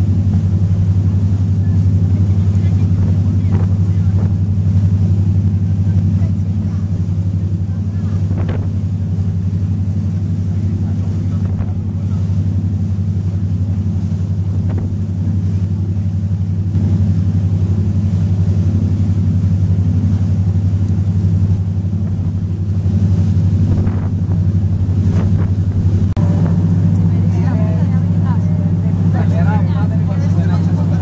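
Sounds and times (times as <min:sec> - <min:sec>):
motor boat engine droning: 0:00.0 - 0:31.0
wind and water rushing: 0:00.0 - 0:31.0.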